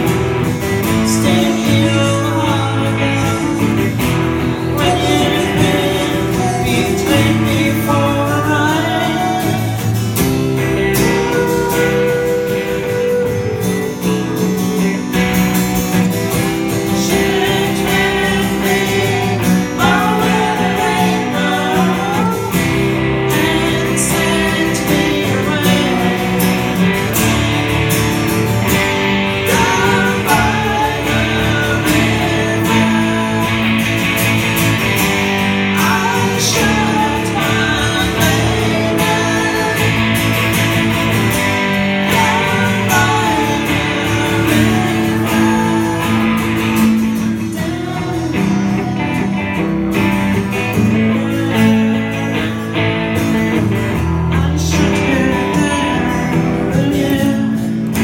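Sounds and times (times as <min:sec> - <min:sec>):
live band playing guitars: 0:00.0 - 0:58.0
person singing: 0:00.0 - 0:58.0.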